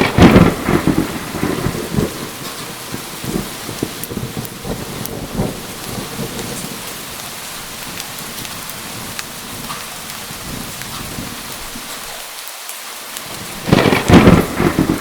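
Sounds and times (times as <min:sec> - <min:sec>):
low thunder rumble: 0:00.0 - 0:11.9, 0:13.3 - 0:15.0
sharp drips ticking: 0:00.0 - 0:15.0
steady rain: 0:00.0 - 0:15.0.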